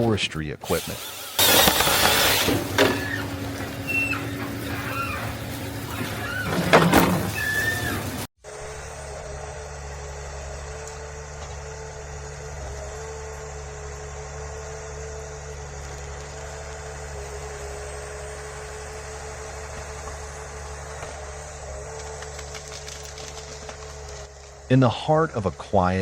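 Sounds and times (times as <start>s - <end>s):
harvester engine humming: 0.0s - 26.0s
steady machine whine: 0.0s - 26.0s.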